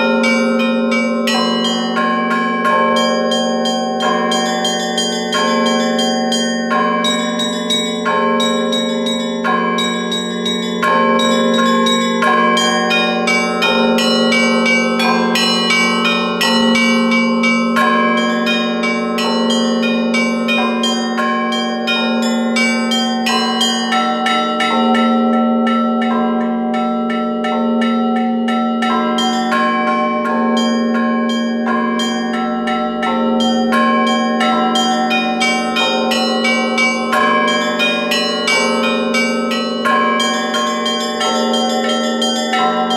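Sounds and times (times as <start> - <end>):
deep church bells ringing: 0.0 - 42.9
small high bells struck rhythmically: 0.0 - 42.9.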